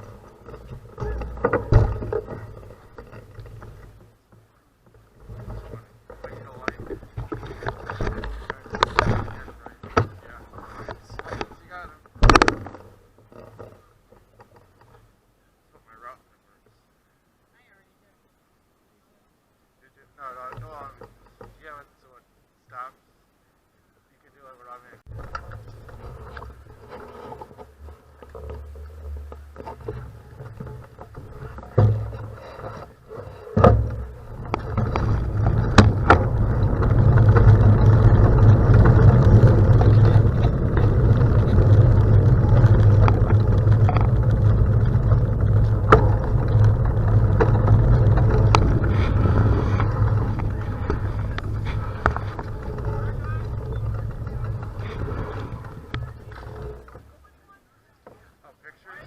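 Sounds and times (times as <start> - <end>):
wind and road noise: 0.0 - 16.0, 23.2 - 59.0.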